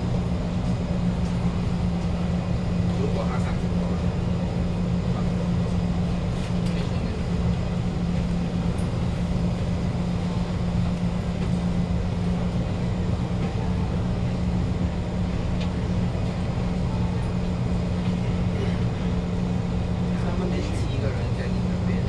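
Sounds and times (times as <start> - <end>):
train air-conditioning hum: 0.0 - 22.0.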